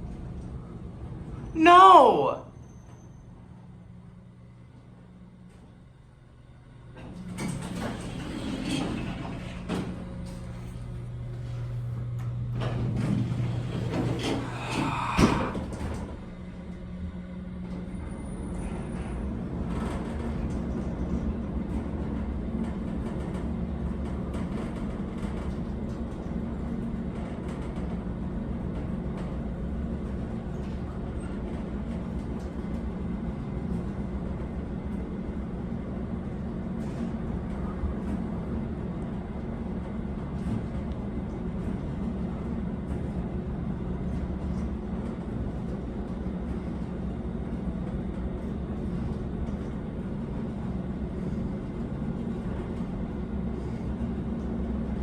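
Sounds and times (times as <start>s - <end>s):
elevator car low rumble: 0.0s - 1.6s, 2.4s - 55.0s.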